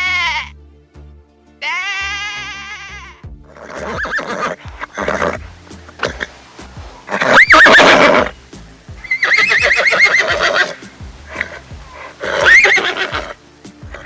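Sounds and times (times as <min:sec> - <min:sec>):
horse whinnying: 0:01.6 - 0:08.4, 0:09.0 - 0:14.0.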